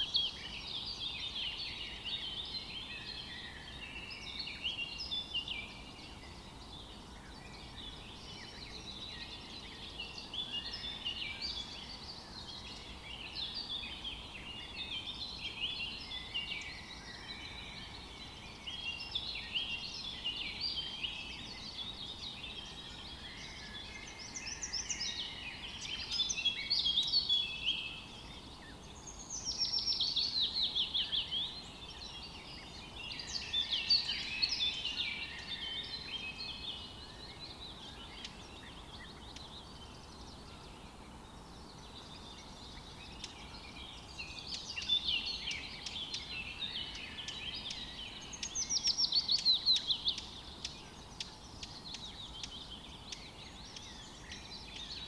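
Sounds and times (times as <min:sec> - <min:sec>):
faint outdoor hiss: 0:00.0 - 0:55.0
songbirds chirping and trilling: 0:00.0 - 0:55.0.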